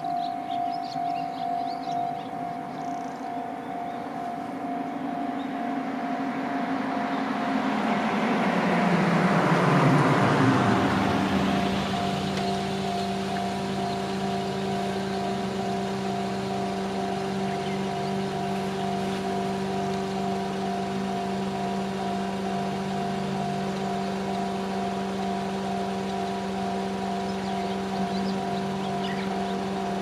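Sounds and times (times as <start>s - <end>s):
electric train running: 0.0s - 30.0s
level crossing warning bell: 0.0s - 30.0s.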